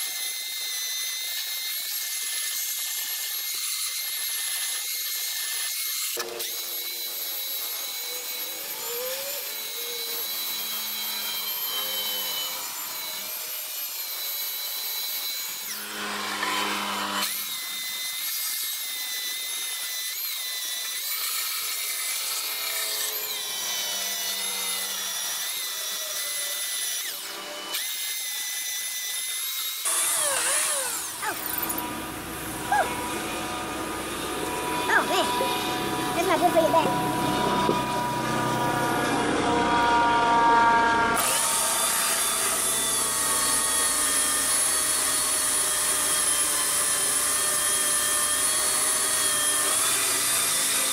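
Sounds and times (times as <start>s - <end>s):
power tool grinding plywood: 0.0s - 50.9s.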